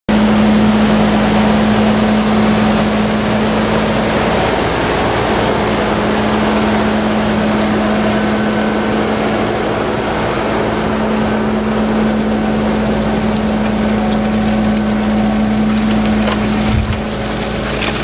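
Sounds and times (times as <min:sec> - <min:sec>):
tractor engine drone: 0:00.0 - 0:18.0
soil being turned by plough: 0:00.1 - 0:18.0.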